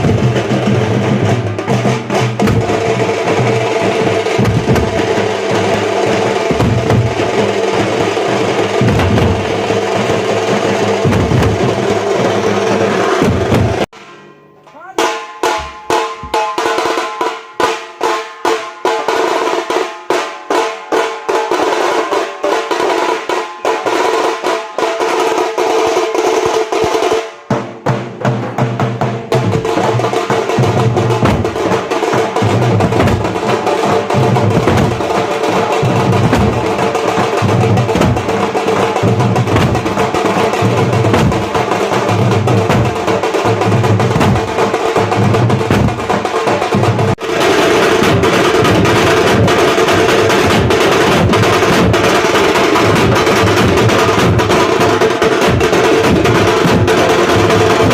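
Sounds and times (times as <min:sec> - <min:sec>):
deep dhol drum: 0:00.0 - 0:14.1, 0:14.8 - 0:57.9
ringing tasha drum strokes: 0:00.0 - 0:57.9.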